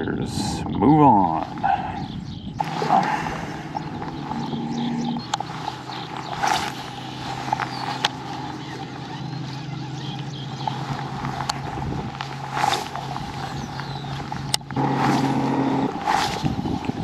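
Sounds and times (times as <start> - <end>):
electric motor humming: 2.6 - 17.0.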